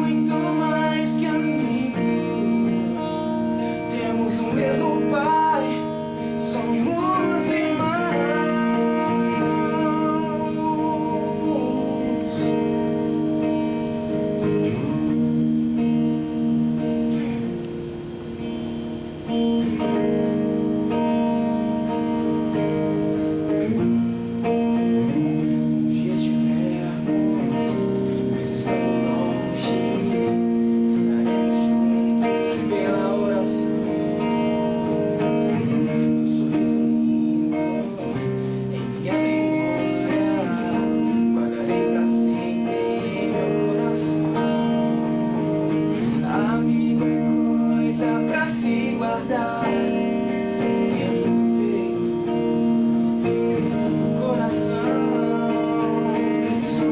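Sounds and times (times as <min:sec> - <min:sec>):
person singing: 0:00.0 - 0:56.9
pop-rock band playing: 0:00.0 - 0:56.9.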